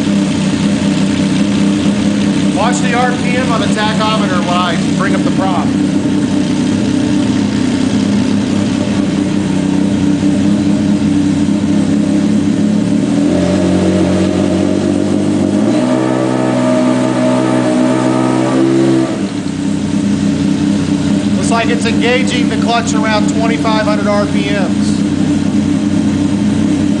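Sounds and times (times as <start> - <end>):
engine revving: 0.0 - 27.0
propeller spinning: 0.0 - 27.0.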